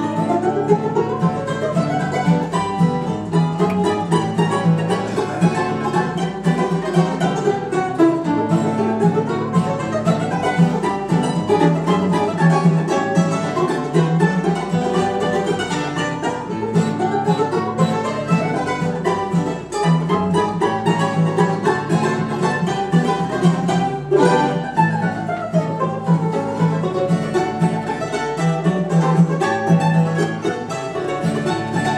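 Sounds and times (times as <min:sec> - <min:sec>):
acoustic guitar: 0:00.0 - 0:31.9
mandolin: 0:00.0 - 0:31.9
mandolin-banjo melody: 0:00.0 - 0:31.9.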